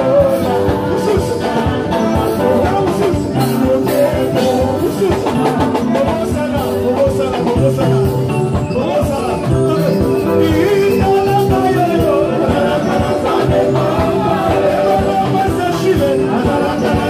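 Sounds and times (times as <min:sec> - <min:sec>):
voices singing: 0:00.0 - 0:17.0
worship band playing: 0:00.0 - 0:17.0.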